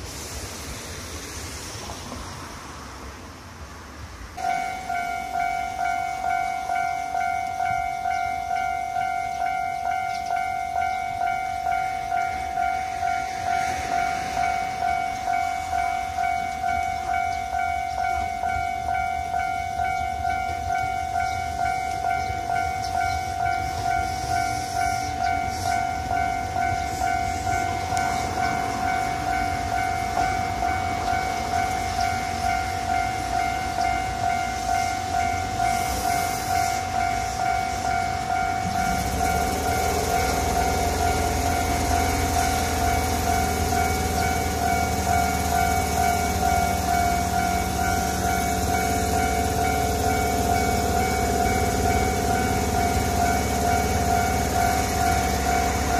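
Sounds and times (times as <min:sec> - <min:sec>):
electric train rumble: 0:00.0 - 0:55.9
level crossing bell ringing: 0:04.4 - 0:55.9.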